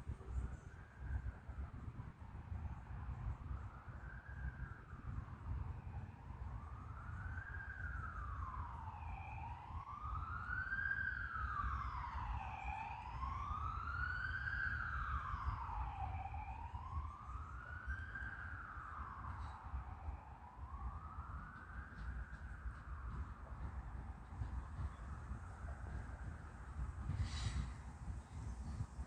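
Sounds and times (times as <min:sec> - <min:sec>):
wailing siren: 0:00.0 - 0:29.0.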